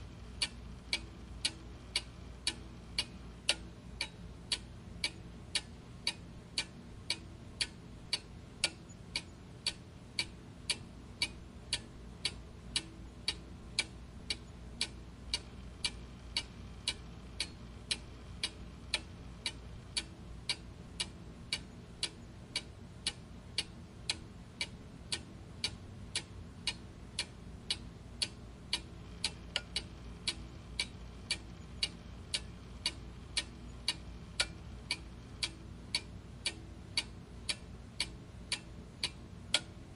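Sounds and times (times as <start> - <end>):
faint low hum: 0.0 - 39.9
clock ticking: 0.2 - 39.8.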